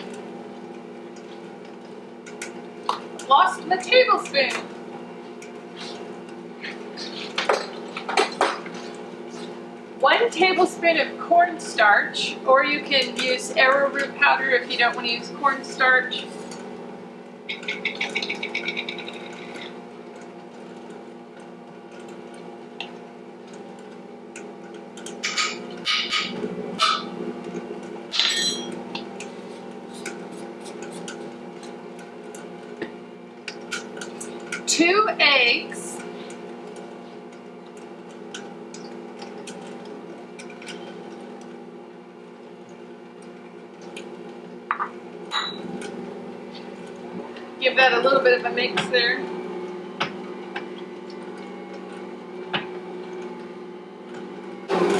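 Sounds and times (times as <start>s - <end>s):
steady low hum: 0.0s - 54.4s.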